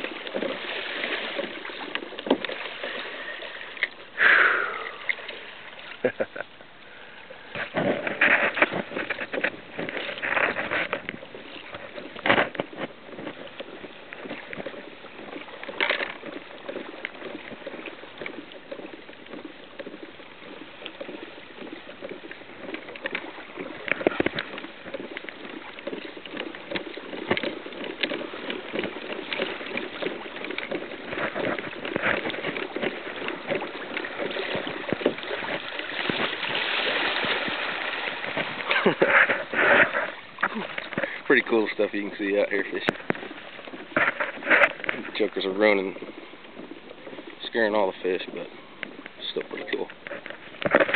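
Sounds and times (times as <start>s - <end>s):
water sloshing around kayak hull: 0.0s - 50.9s.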